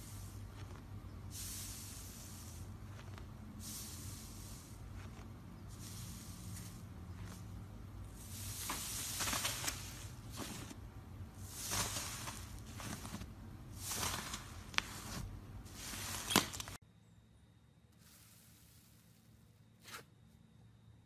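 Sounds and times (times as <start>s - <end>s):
slime crackling and hissing: 0.0s - 16.8s, 18.0s - 20.0s.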